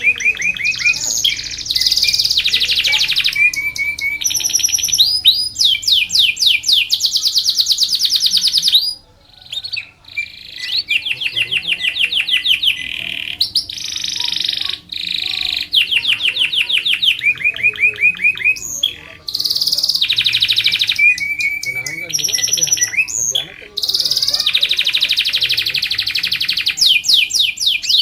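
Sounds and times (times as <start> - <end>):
canary singing trills: 0.0 - 28.0.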